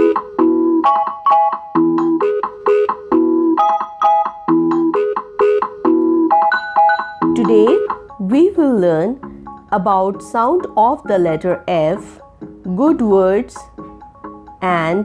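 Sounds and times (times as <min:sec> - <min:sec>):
bouncy keyboard melody: 0:00.0 - 0:15.0.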